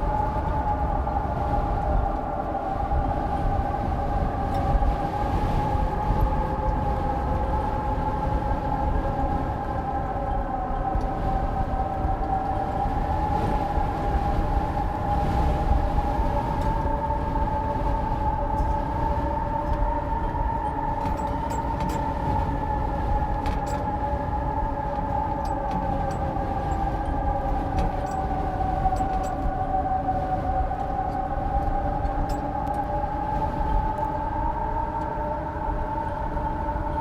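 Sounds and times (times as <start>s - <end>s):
wind howling: 0.0s - 37.0s.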